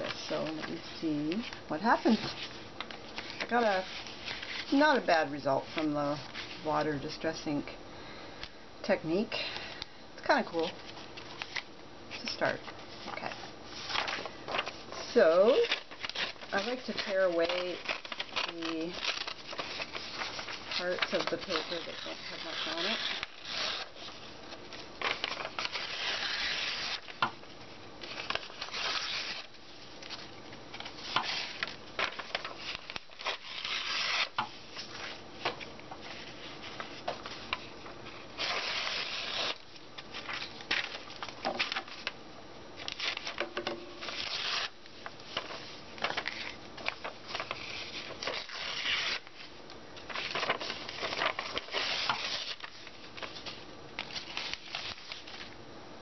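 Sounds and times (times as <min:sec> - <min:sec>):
paper tearing and rustling: 0:00.0 - 0:05.0, 0:13.0 - 0:27.3, 0:28.0 - 0:42.2, 0:42.8 - 0:43.4, 0:44.0 - 0:55.6.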